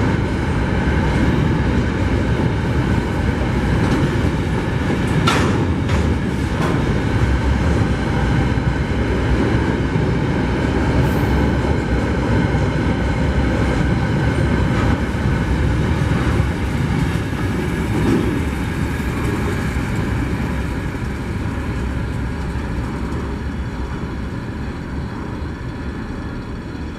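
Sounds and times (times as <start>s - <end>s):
train wheels rumbling and clattering: 0.0s - 26.9s.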